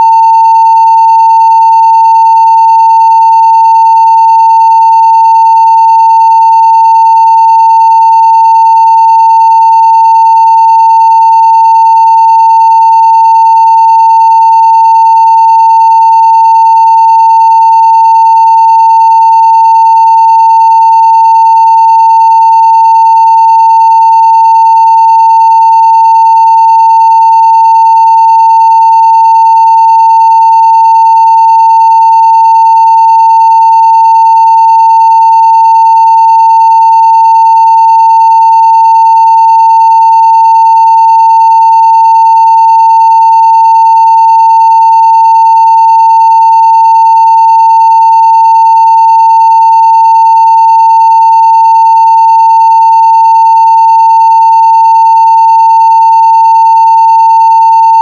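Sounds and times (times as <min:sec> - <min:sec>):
sine test tone: 0:00.0 - 0:58.0.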